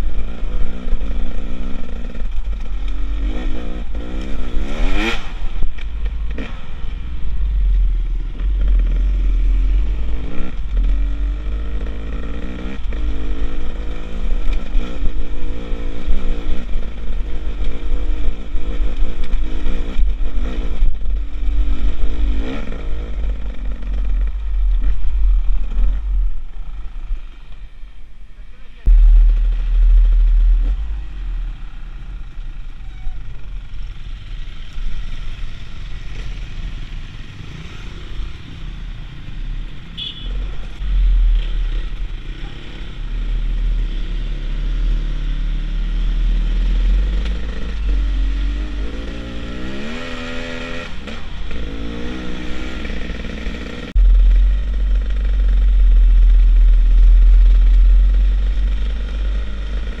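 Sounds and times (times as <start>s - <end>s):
motorcycle engine revving: 0.0s - 27.6s, 28.7s - 60.0s.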